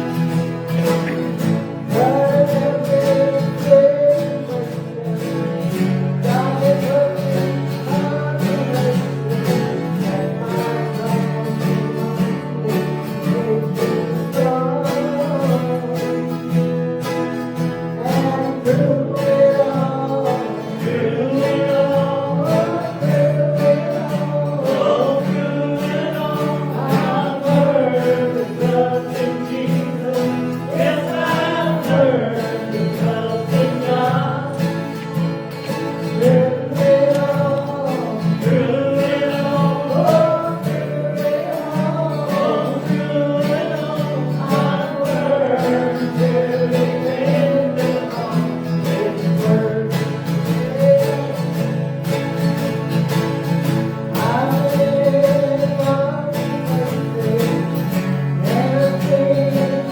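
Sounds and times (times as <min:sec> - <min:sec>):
guitar accompaniment: 0:00.0 - 0:59.9
person singing gospel song: 0:00.0 - 0:59.9.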